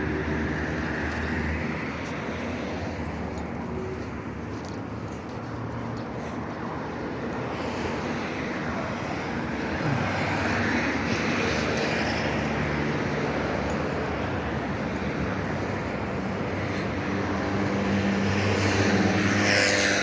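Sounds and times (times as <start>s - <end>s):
vehicle engine hum and tyre rush: 0.0s - 20.0s.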